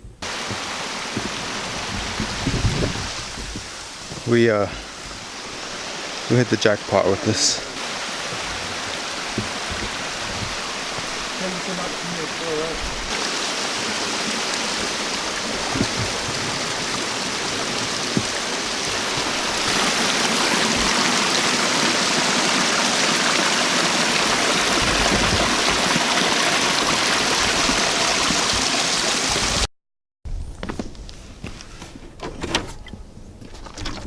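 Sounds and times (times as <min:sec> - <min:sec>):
flowing water rushing: 0:00.2 - 0:29.7.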